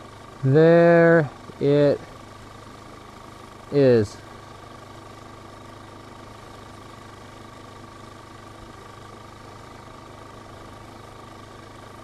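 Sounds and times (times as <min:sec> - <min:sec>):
low mechanical hum: 0:00.0 - 0:12.0
thin steady whine: 0:00.0 - 0:12.0.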